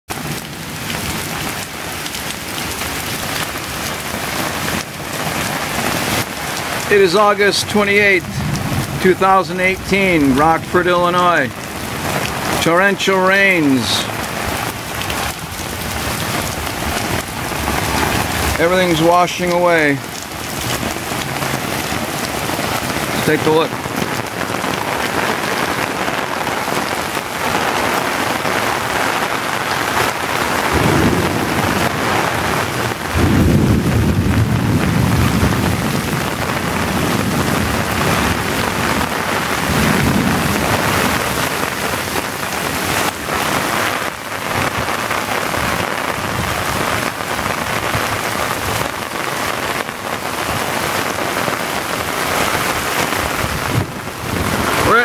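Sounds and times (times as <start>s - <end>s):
rain pouring on standing water: 0.1s - 55.0s.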